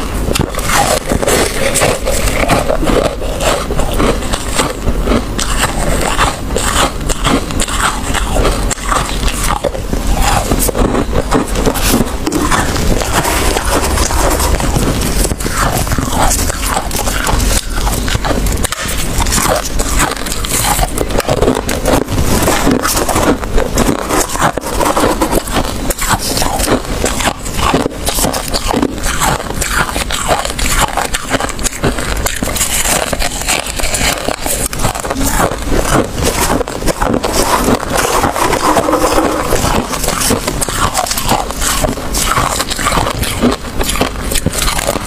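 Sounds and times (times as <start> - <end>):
gloved hands scraping frost: 0.0 - 44.9
frost crunching while chewed: 0.0 - 45.0.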